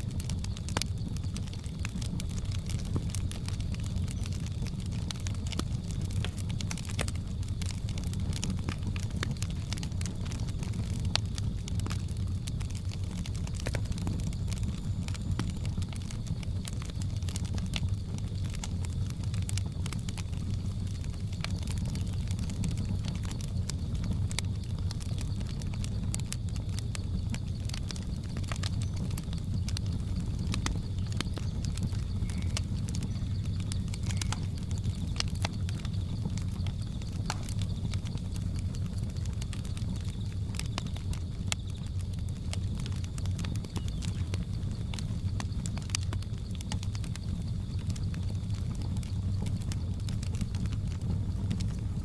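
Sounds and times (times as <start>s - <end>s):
faint high-pitched jungle hum: 0.0s - 52.0s
wood fire crackling: 0.0s - 52.0s.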